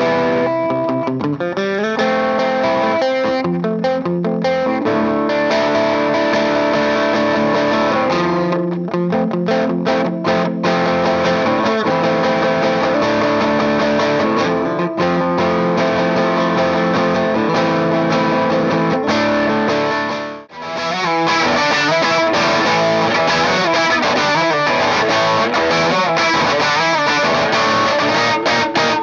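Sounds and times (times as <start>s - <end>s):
overdriven electric guitar chords: 0.0s - 29.0s.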